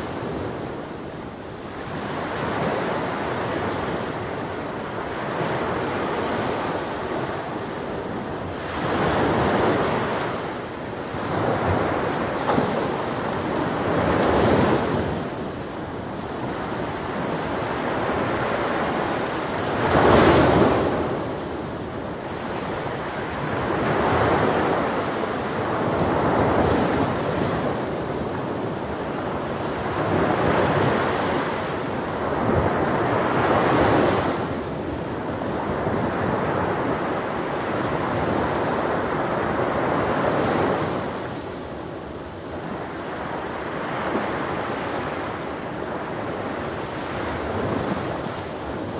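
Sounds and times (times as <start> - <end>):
ocean waves breaking on beach: 0.0 - 48.9.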